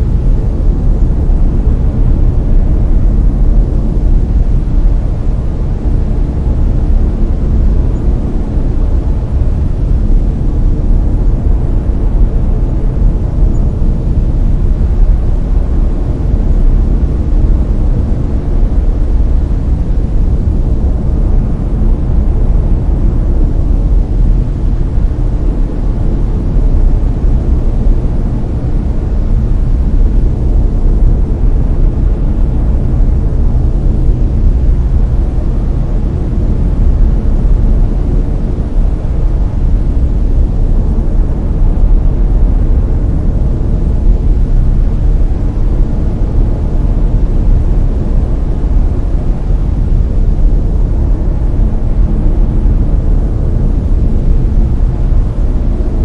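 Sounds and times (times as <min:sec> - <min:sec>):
deep rushing brown noise: 0:00.0 - 0:56.0.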